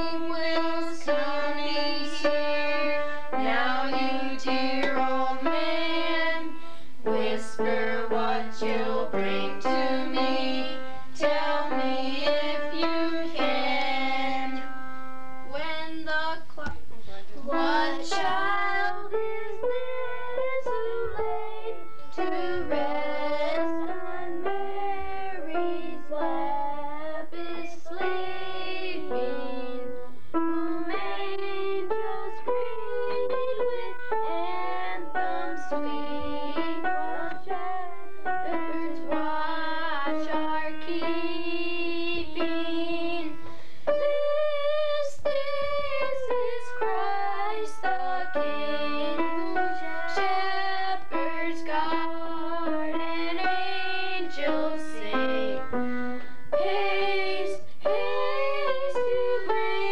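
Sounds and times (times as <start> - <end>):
children and woman singing: 0.0 - 59.9
upright piano: 0.0 - 59.9.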